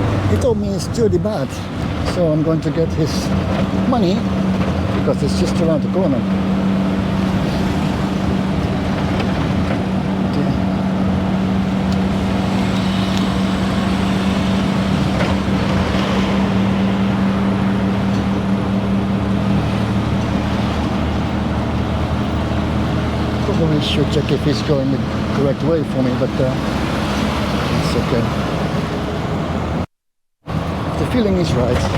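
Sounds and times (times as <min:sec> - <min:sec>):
tuk-tuk engine running: 0:00.0 - 0:29.8, 0:30.4 - 0:31.9
road and traffic noise: 0:00.0 - 0:31.9.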